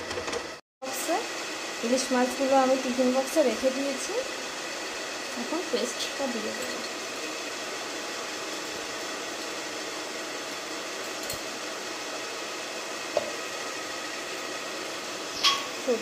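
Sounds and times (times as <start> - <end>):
fan-like hiss: 0.8 - 16.0.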